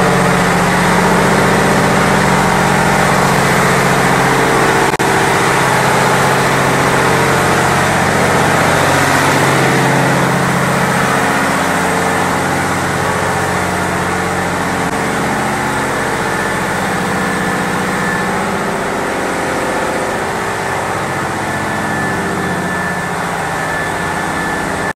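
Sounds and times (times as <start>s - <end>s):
diesel engines and machinery droning: 0.0s - 25.0s.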